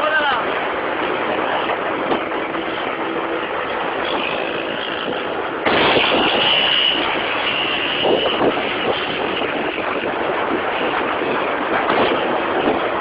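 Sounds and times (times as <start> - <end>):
wind buffeting microphone: 0.0 - 13.0
small motorcycles running: 0.7 - 13.0.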